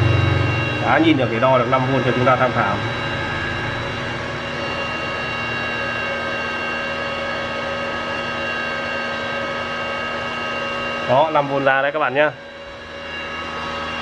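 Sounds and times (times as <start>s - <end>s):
welder cooling fan whirring: 0.0s - 14.0s.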